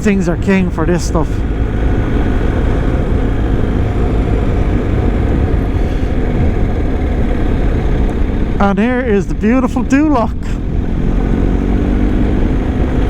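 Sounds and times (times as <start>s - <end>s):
motorcycle engine drone: 0.0s - 13.0s
wind rush: 0.0s - 13.0s.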